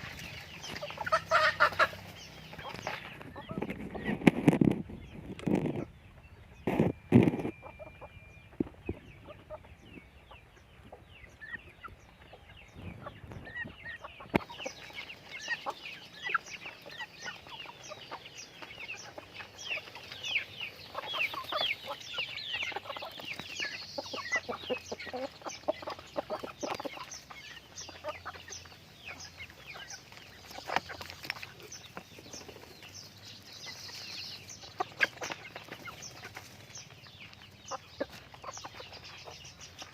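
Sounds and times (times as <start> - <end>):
chickens clucking: 0.0 - 39.9
high falling peeping calls: 0.0 - 39.9.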